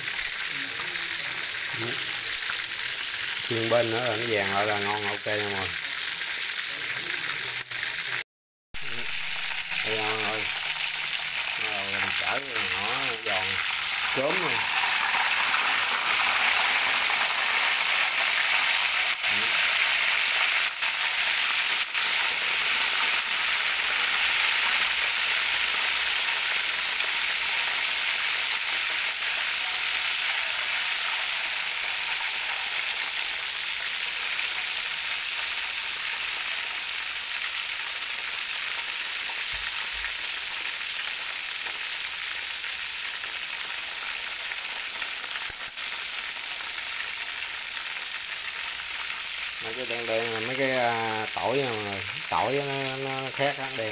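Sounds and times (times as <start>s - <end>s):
chicken frying in hot oil: 0.0s - 8.2s, 8.8s - 53.9s.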